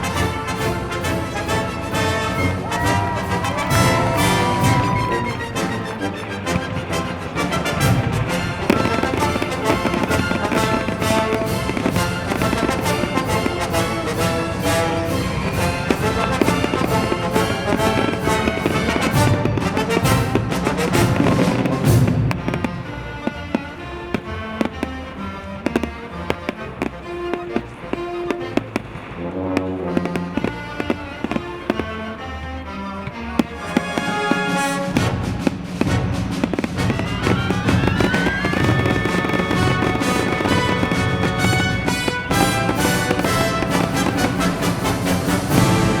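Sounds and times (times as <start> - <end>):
fireworks bursting: 0.0 - 46.0
low rumble of fireworks: 0.0 - 46.0
orchestral music with brass: 0.0 - 46.0.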